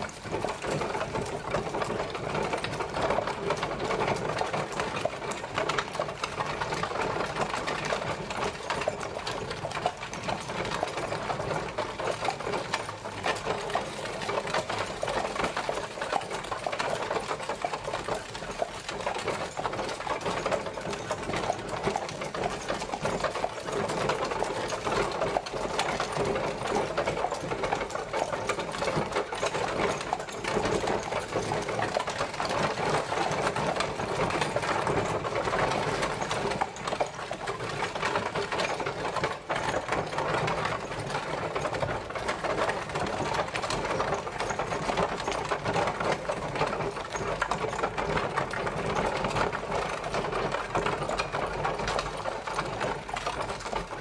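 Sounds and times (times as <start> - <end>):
carriage wheels clattering on road: 0.0 - 54.0.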